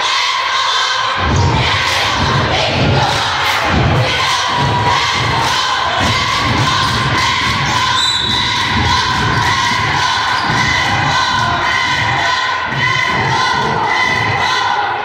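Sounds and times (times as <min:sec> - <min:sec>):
crowd noise: 0:00.0 - 0:15.0.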